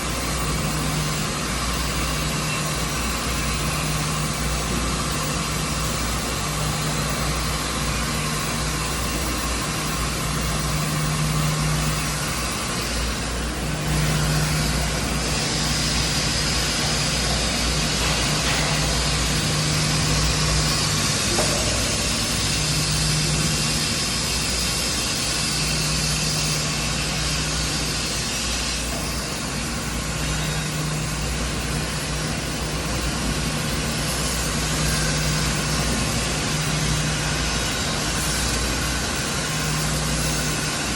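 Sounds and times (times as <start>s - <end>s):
low machinery hum: 0.0s - 40.9s
machinery hiss: 0.0s - 40.9s.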